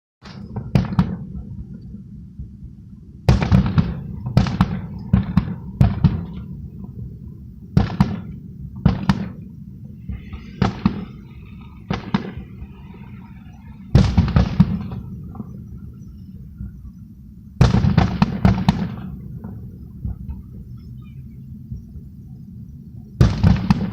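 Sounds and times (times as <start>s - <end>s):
fireworks bangs: 0.2s - 16.9s, 17.6s - 20.8s, 23.2s - 23.9s
low rumble: 0.2s - 23.9s.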